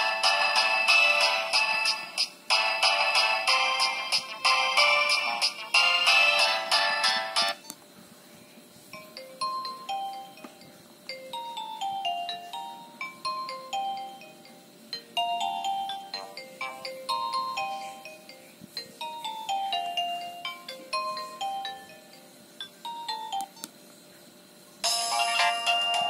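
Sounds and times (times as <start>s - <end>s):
bell-like ringtone melody: 0.0s - 7.6s, 9.0s - 23.7s, 24.8s - 26.0s.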